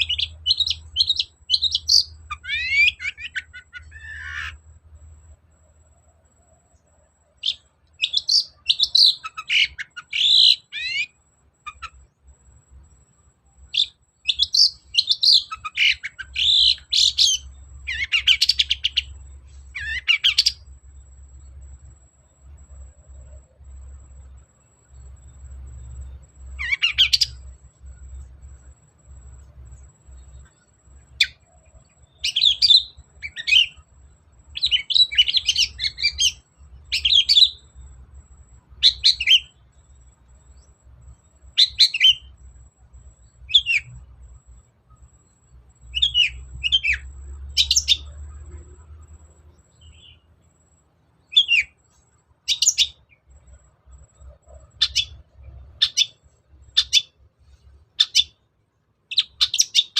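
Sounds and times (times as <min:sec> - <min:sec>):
bird singing rapid high chirps: 0:00.0 - 0:05.3, 0:06.8 - 0:48.3, 0:51.2 - 0:57.2, 0:58.0 - 0:58.4, 0:59.1 - 0:59.9.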